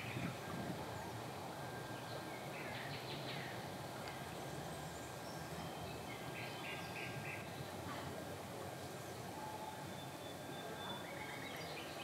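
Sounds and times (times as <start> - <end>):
low outdoor hiss: 0.0 - 12.0.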